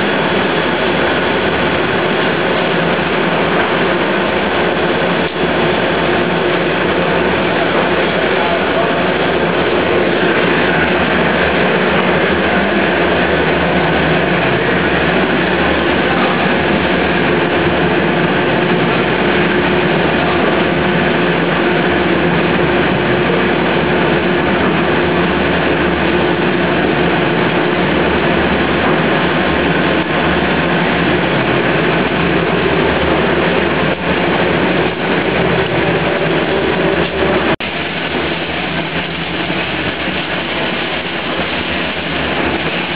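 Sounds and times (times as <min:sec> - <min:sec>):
production line machinery drone: 0:00.0 - 0:42.9.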